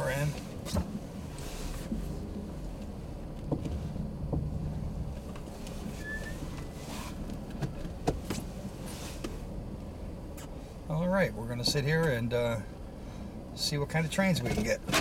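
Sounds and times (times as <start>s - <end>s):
wind gusting against car: 0.0s - 13.6s
low rumble inside car cabin: 0.0s - 15.0s.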